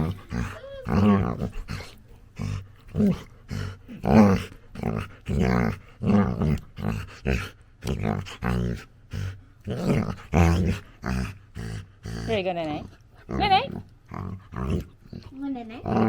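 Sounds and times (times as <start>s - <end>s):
puppy play growling: 0.0s - 16.0s.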